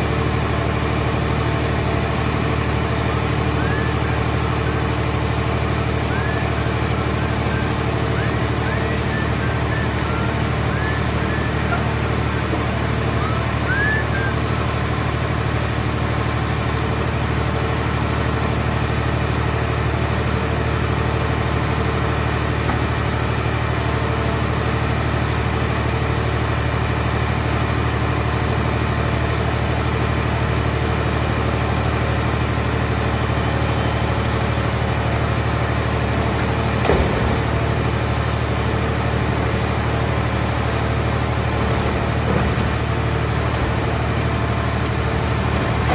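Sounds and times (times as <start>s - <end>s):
hydraulic power unit running: 0.0s - 45.9s.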